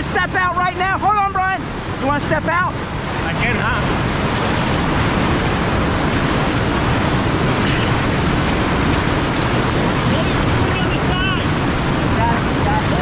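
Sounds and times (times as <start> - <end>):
whitewater rushing and splashing: 0.0 - 13.0.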